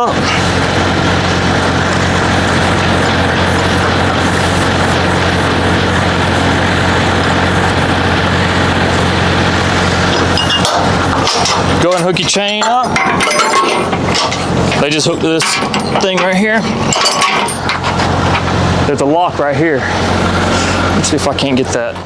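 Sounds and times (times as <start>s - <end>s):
diesel truck engine idling: 0.0s - 13.2s, 13.8s - 22.0s.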